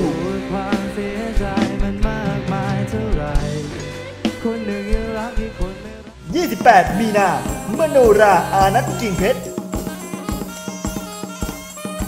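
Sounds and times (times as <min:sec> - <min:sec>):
rock-pop song with vocals: 0:00.0 - 0:10.6.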